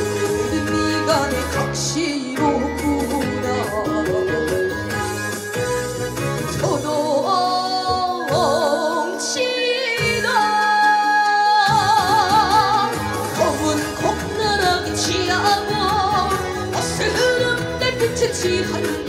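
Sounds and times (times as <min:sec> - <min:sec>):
bass and drums: 0:00.0 - 0:08.8, 0:11.6 - 0:19.0
instrumental accompaniment: 0:00.0 - 0:19.0.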